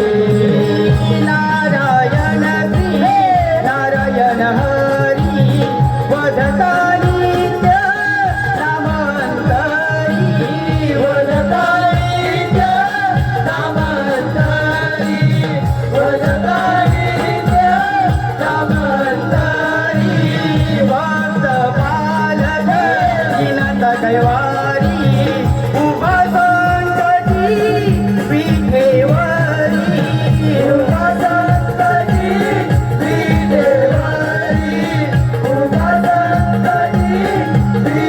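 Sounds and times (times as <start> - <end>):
hand drum beats: 0.0 - 38.0
person singing: 0.0 - 38.0.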